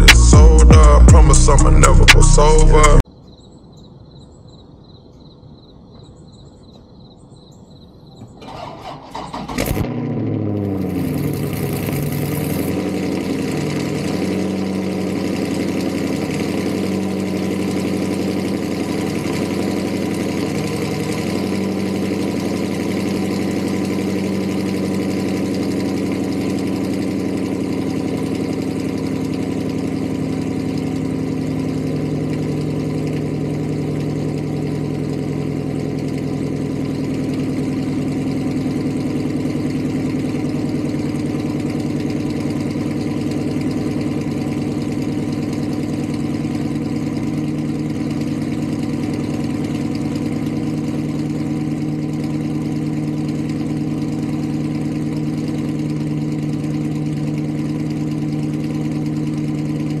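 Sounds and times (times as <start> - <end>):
car engine idling deeply: 0.0 - 3.1, 8.2 - 60.0.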